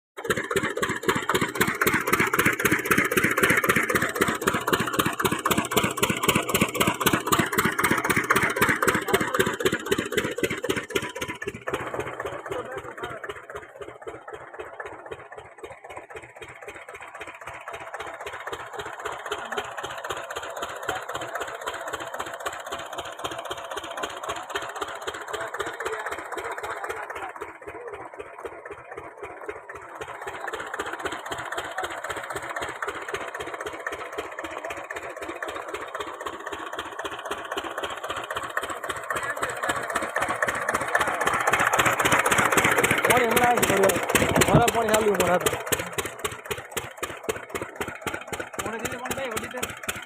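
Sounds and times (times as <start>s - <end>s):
diesel engine chugging: 0.2s - 50.0s.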